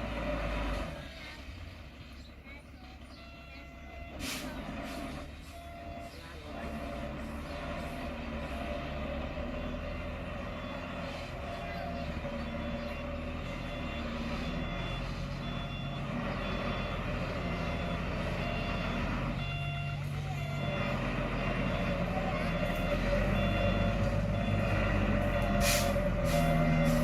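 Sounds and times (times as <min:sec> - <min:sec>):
diesel engine running: 0:00.0 - 0:27.0
reversing alarm beeping: 0:03.1 - 0:27.0.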